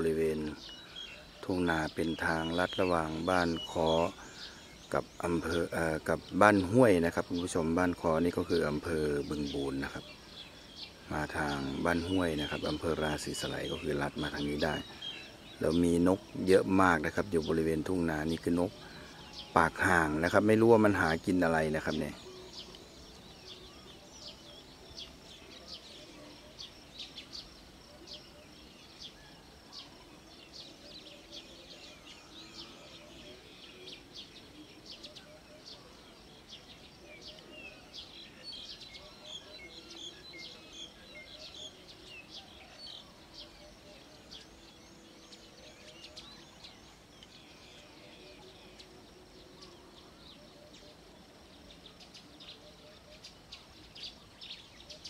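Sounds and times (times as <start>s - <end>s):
faint low outdoor murmur: 0.0s - 55.0s
small birds chirping: 0.0s - 55.0s.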